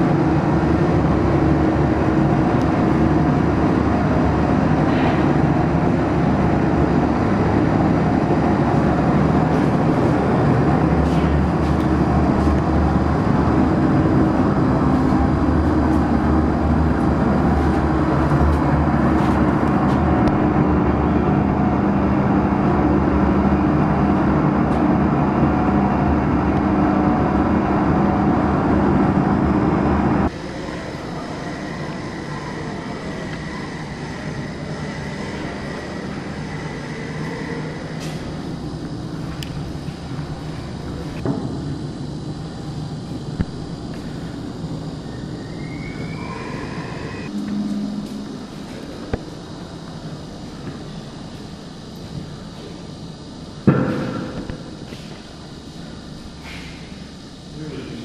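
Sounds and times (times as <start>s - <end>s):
machine drone: 0.0s - 58.0s.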